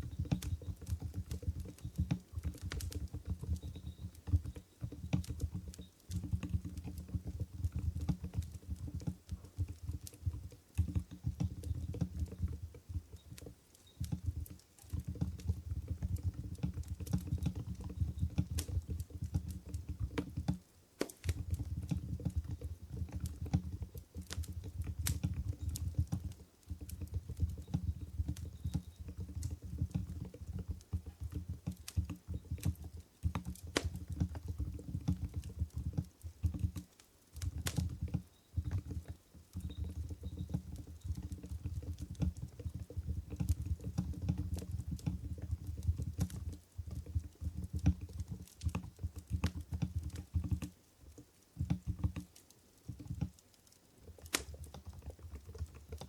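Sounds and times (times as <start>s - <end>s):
fast typing on keyboard: 0.0s - 50.7s.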